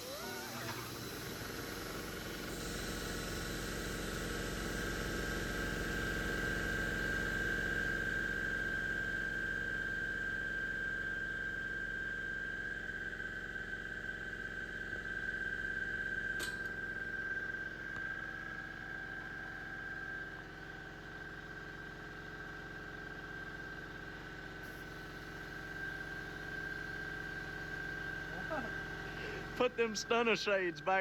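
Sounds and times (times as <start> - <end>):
machine whining and humming: 0.0 - 31.0.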